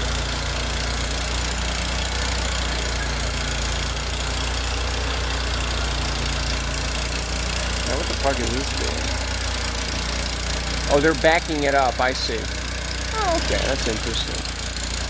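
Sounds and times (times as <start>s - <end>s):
stump grinder engine idling: 0.0s - 15.0s.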